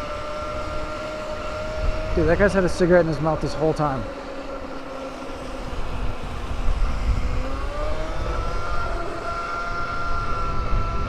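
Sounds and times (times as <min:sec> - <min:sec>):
electric motor whining: 0:00.0 - 0:11.0
low rumbling noise: 0:00.0 - 0:11.0.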